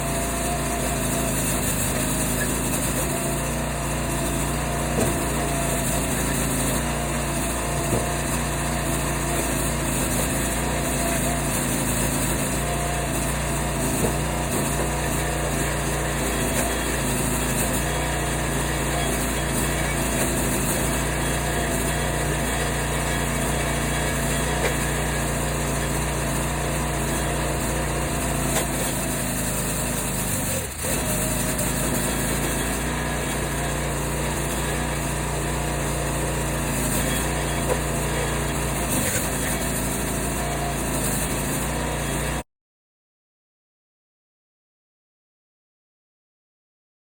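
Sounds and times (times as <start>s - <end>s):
small engine running: 0.0s - 42.4s.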